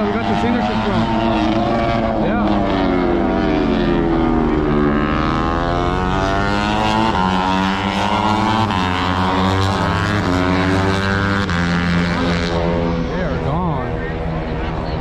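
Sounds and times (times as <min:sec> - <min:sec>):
racing motorcycles passing at high revs: 0:00.0 - 0:15.0.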